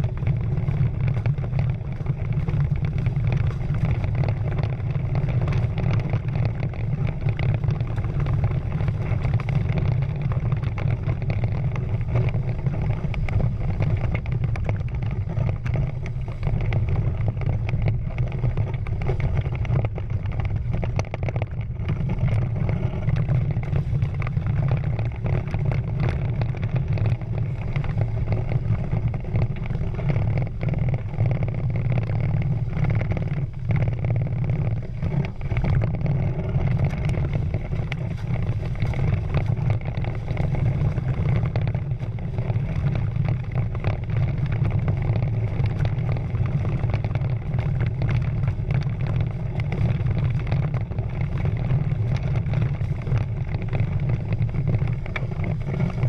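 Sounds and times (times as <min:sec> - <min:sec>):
water rushing along a hull: 0:00.0 - 0:56.0
wind on microphone: 0:00.0 - 0:56.0.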